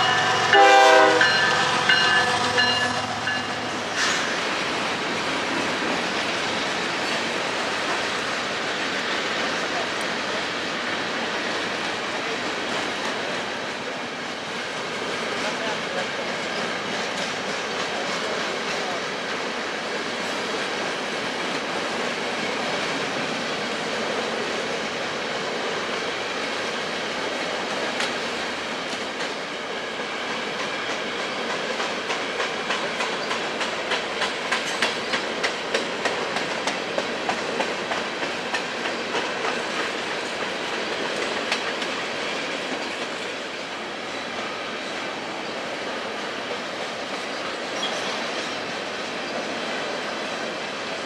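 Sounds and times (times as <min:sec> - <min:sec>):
freight train rolling past: 0:00.0 - 0:51.0
wheels clicking on rail: 0:00.0 - 0:51.0.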